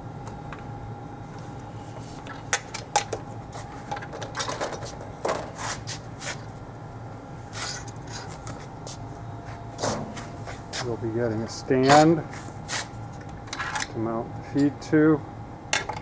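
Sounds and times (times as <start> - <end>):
machine hum: 0.0 - 15.8.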